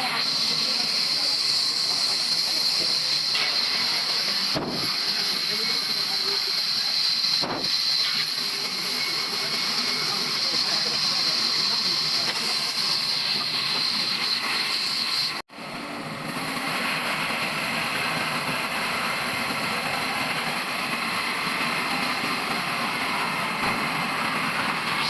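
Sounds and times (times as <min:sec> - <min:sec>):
sawmill machinery hissing: 0:00.0 - 0:25.0.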